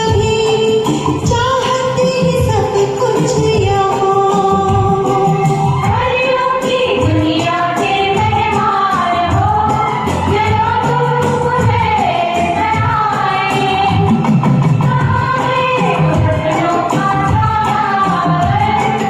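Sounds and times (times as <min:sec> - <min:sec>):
karaoke backing track: 0:00.0 - 0:19.0.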